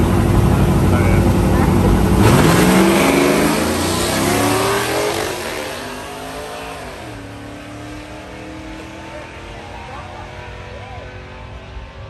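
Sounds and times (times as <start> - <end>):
racing engine revving: 0.0 - 12.0.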